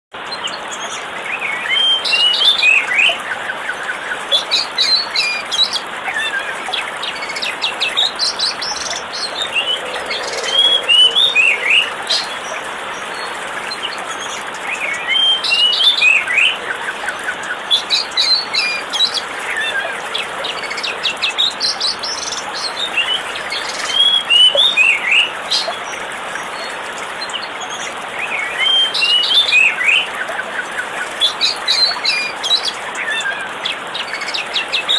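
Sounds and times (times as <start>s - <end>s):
birds chirping and twittering: 0.2s - 34.9s
falling water rushing: 0.2s - 34.9s.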